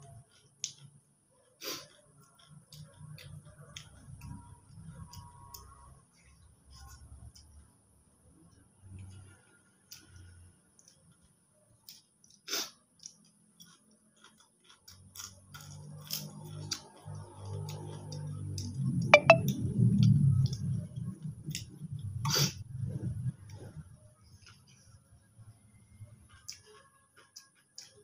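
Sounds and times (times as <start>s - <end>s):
crunching and chewing cracker: 0.0s - 19.0s, 19.6s - 22.6s, 26.2s - 28.0s.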